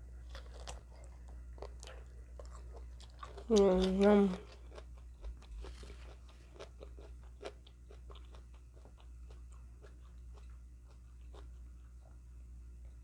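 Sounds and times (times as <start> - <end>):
steady low hum: 0.0 - 13.0
close chewing and biting: 0.2 - 12.2.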